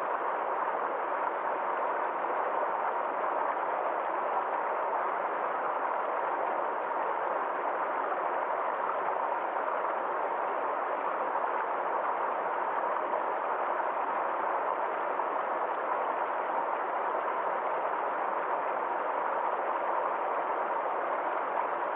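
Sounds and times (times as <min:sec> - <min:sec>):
small stream flowing: 0:00.0 - 0:21.9.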